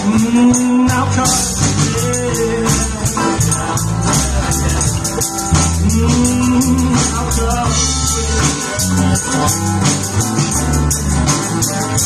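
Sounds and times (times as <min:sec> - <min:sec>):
instrumental band music: 0:00.0 - 0:12.0.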